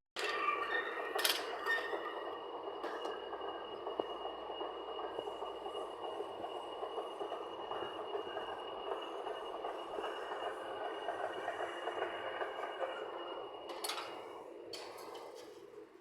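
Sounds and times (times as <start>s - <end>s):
machine running: 0.6s - 15.4s.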